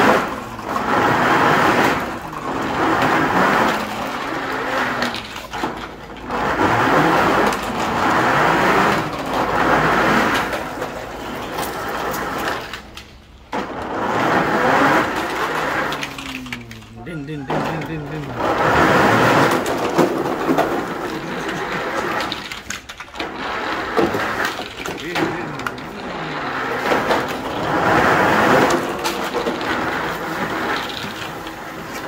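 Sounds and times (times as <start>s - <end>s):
toy trucks rattling on metal: 0.0s - 32.0s.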